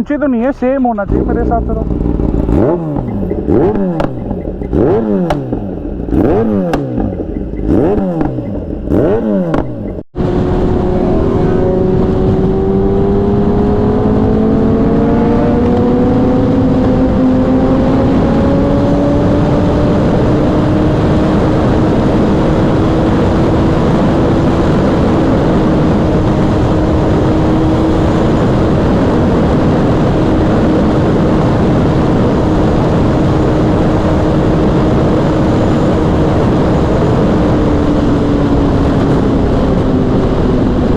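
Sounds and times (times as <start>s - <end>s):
wind and road noise: 0.0s - 40.9s
motorcycle engine revving: 1.0s - 40.9s.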